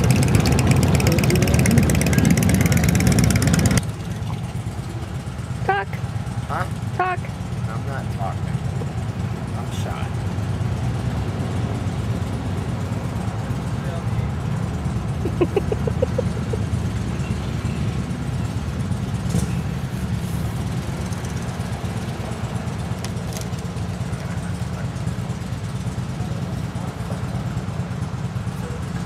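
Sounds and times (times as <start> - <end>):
motorcycle engines idling: 0.0 - 29.0.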